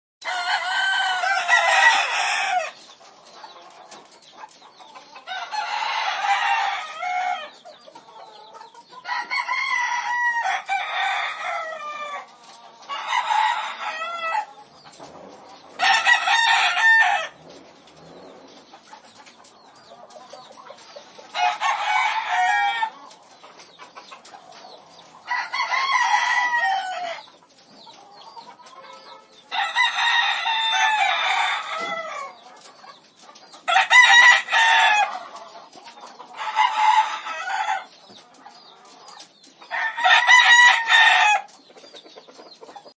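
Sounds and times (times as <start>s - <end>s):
chickens calling: 0.2s - 42.9s
farmyard background: 0.2s - 42.9s.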